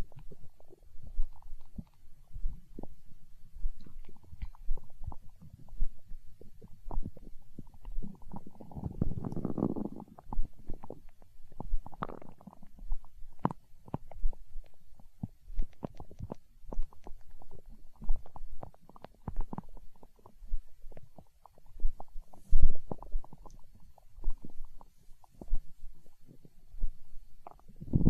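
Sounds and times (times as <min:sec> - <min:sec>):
soft low thumps: 0:00.0 - 0:28.0
stomach growling: 0:00.0 - 0:28.0.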